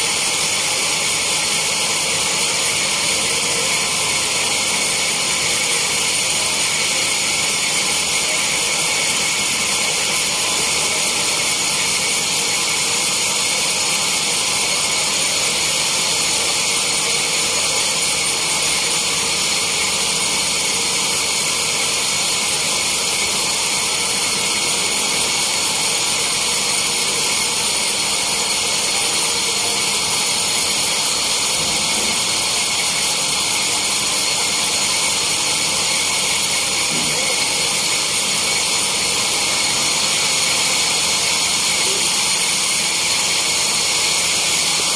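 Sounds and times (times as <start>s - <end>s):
sawmill saw whining: 0.0s - 44.9s.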